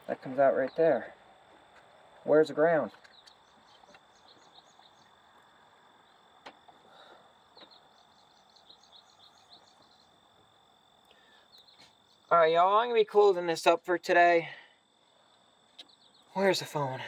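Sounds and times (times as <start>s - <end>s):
high insect chirps: 0.0s - 17.0s.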